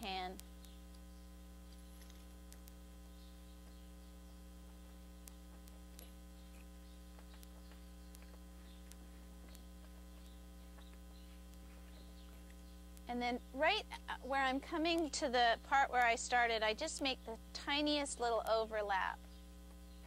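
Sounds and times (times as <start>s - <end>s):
low mains hum: 0.0s - 20.0s.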